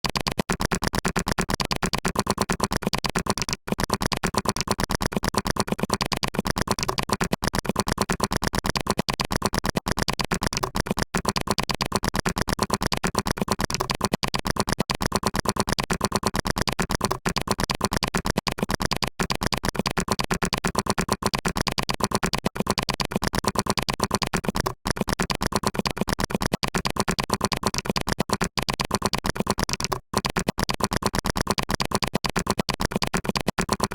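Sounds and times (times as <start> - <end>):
fast keyboard typing: 0.0 - 33.9.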